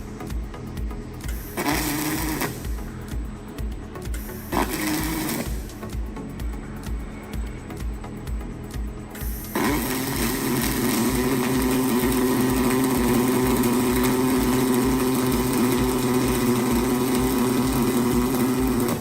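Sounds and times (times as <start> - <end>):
arc welding buzz: 0.0 - 7.0, 7.7 - 19.0.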